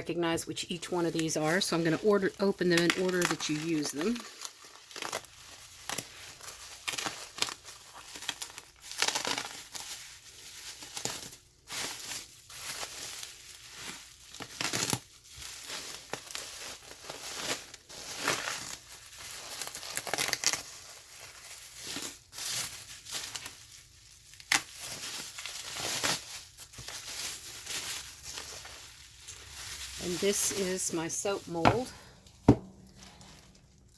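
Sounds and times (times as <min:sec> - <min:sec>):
packing material crinkling and tearing: 0:00.0 - 0:33.9.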